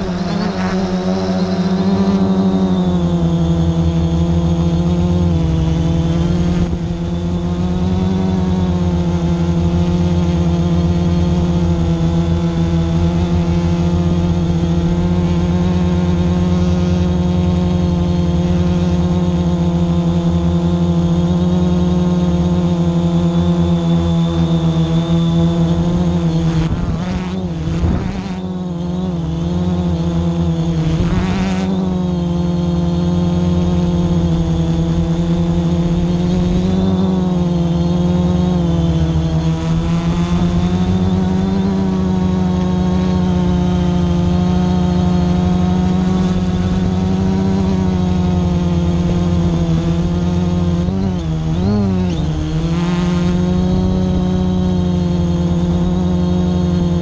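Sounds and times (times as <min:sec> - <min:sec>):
drone motors whining: 0:00.0 - 0:57.0.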